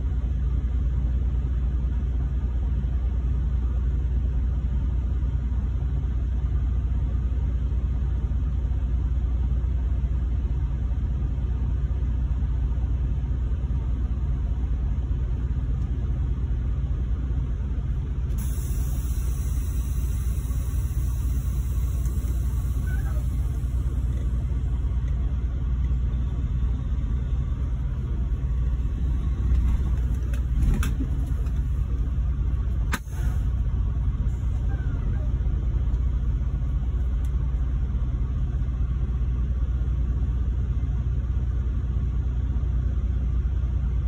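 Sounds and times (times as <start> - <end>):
diesel truck engine rumbling: 0.0 - 44.0.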